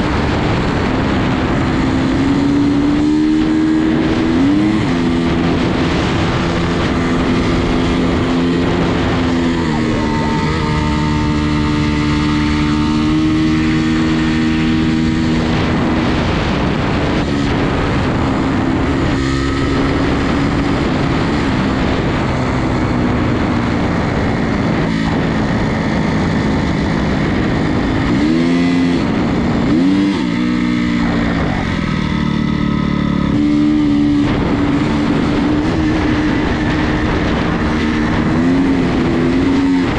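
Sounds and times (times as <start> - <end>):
dirt bike engine running: 0.0 - 39.9
wind and road noise: 0.0 - 39.9.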